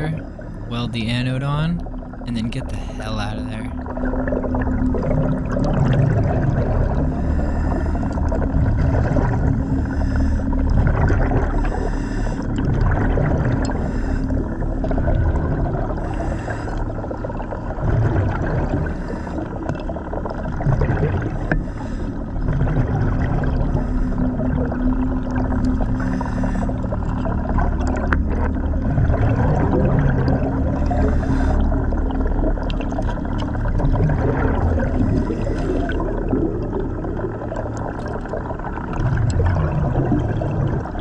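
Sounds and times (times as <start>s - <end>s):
steady low drone: 0.0s - 20.5s, 21.2s - 41.0s
rumbling exhaust bubbles: 3.9s - 41.0s.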